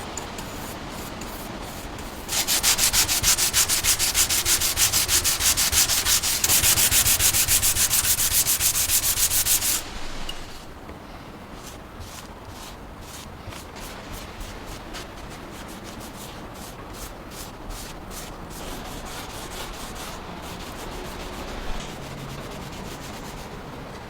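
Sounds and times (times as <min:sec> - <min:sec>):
hand sanding strokes: 0:00.0 - 0:10.7, 0:11.5 - 0:23.8.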